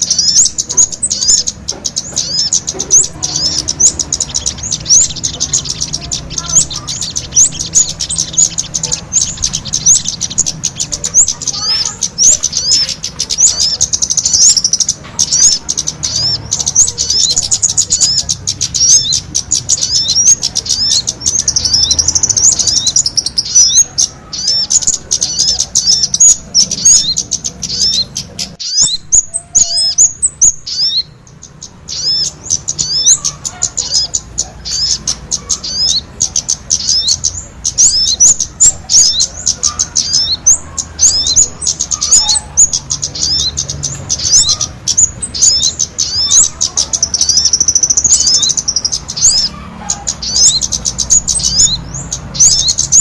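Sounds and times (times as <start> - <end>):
high-pitched songbird chirps: 0.0 - 53.0.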